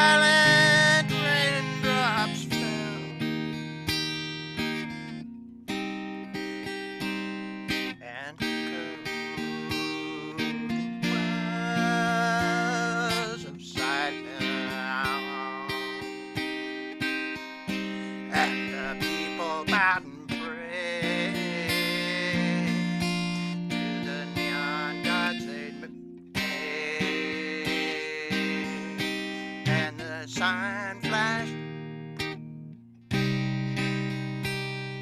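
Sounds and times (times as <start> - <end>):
acoustic guitar picking and strumming: 0.0 - 35.0.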